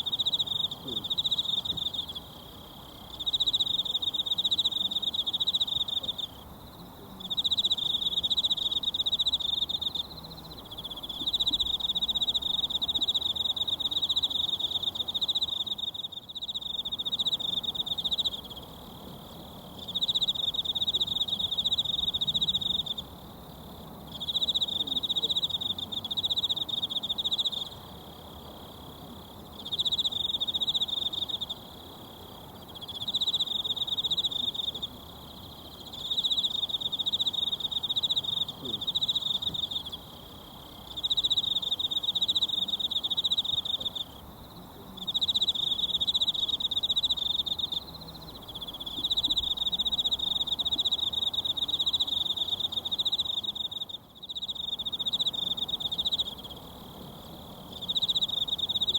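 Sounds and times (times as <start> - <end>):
insect trilling: 0.0 - 6.4, 7.2 - 18.8, 24.1 - 28.2, 29.6 - 58.9.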